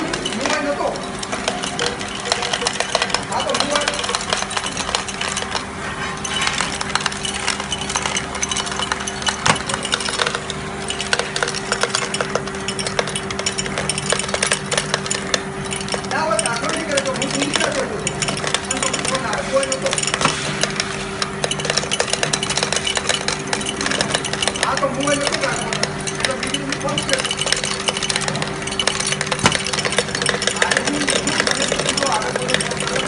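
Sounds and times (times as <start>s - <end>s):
machine motor hum: 0.0s - 33.0s
tablets rattling and clinking: 0.0s - 33.0s.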